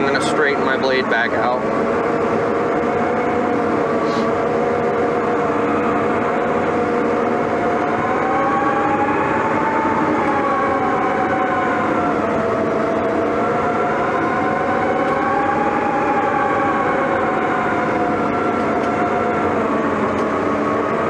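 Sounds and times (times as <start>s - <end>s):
bulldozer diesel drone with whine: 0.0s - 21.0s.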